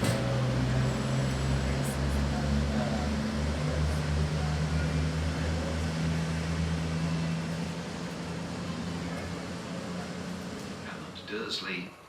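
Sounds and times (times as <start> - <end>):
diesel train engine drone: 0.0 - 12.0.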